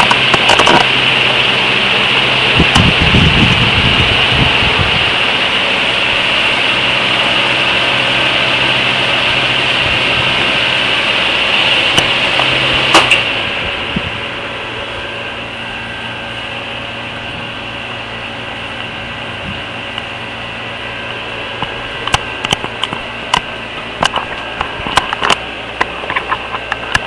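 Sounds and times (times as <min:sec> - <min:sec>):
low hum: 0:00.0 - 0:27.0
mechanical drone with hiss: 0:00.0 - 0:27.0.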